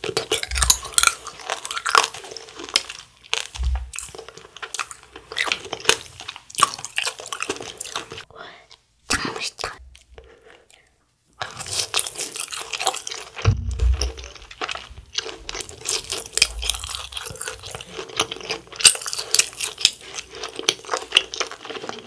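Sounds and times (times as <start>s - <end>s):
crunchy food chewing: 0.0s - 8.3s, 10.0s - 22.0s.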